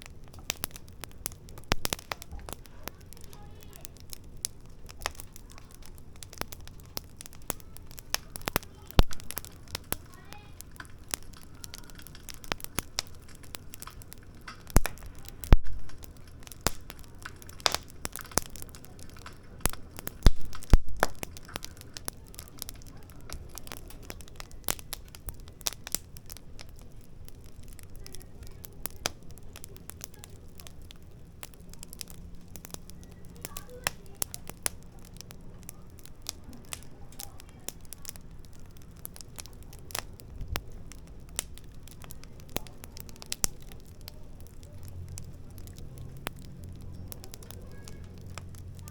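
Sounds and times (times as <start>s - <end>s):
fire snaps and pops: 0.0s - 48.9s
firewood crackling: 0.0s - 48.9s.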